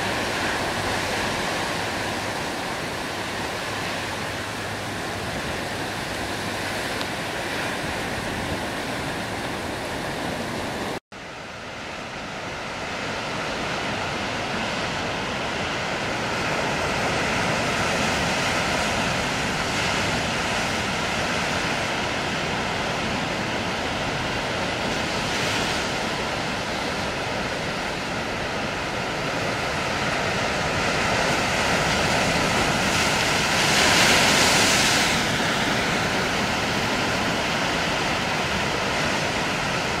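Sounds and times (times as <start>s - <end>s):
surf rushing: 0.0s - 40.0s
wind: 0.0s - 40.0s.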